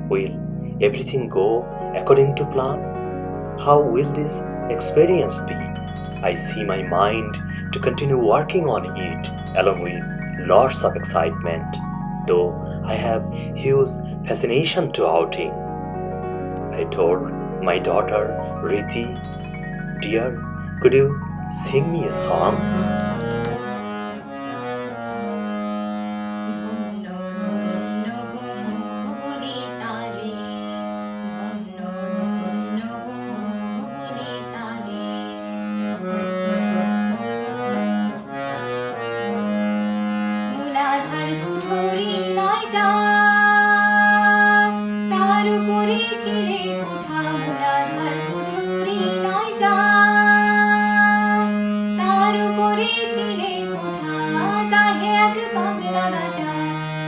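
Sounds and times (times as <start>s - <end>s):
reed-like melody: 0.0s - 57.0s
sliding sung melody: 0.0s - 57.0s.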